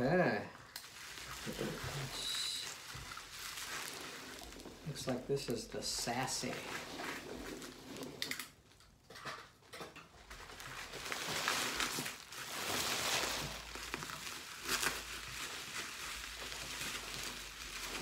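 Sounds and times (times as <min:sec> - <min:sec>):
bubble wrap crinkling: 0:00.2 - 0:08.8, 0:10.2 - 0:18.0
packing peanuts shuffling: 0:00.6 - 0:08.3, 0:10.2 - 0:18.0.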